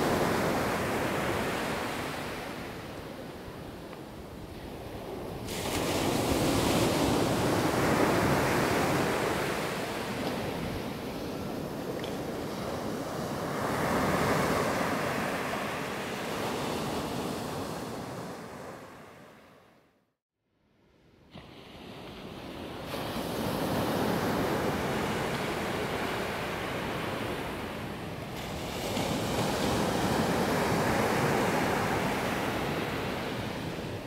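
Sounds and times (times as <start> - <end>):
ocean surf breaking on beach: 0.0 - 19.6, 21.3 - 34.0.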